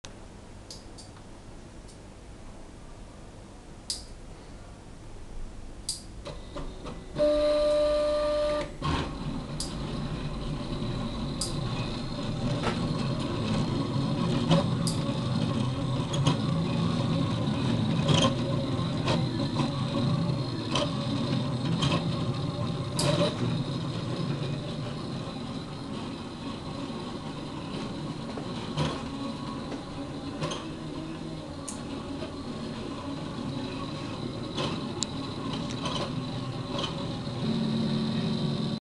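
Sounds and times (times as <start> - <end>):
printer motors and pump whirring: 6.2 - 38.8
motors whining: 6.3 - 38.8.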